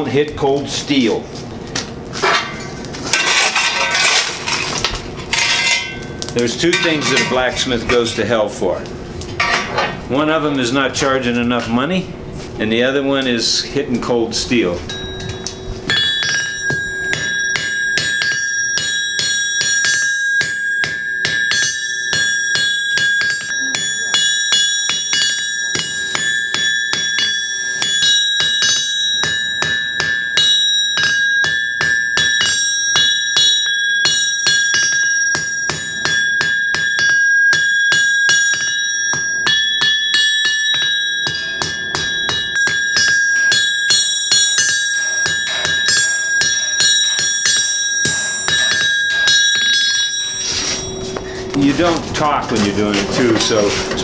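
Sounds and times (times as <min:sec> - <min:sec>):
anvil ringing: 0:02.2 - 0:08.1, 0:14.6 - 0:54.0
hammer striking steel on anvil: 0:02.2 - 0:08.1, 0:09.4 - 0:10.0, 0:14.8 - 0:54.0.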